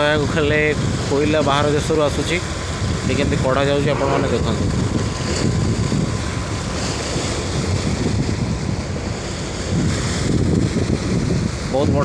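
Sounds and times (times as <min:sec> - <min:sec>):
churning water rushing: 0:00.0 - 0:12.0
steady low rumble: 0:00.0 - 0:12.0
wind buffeting microphone: 0:00.0 - 0:12.0.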